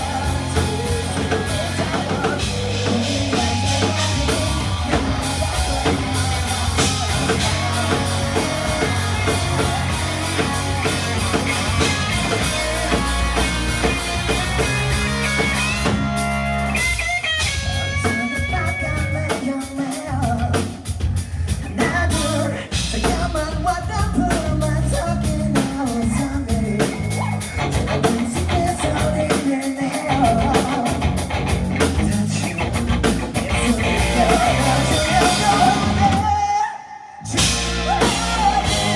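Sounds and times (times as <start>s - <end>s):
bass guitar: 0.0s - 36.4s, 37.2s - 38.9s
drum kit: 0.0s - 36.5s, 37.3s - 38.9s
electric guitar: 0.0s - 38.9s.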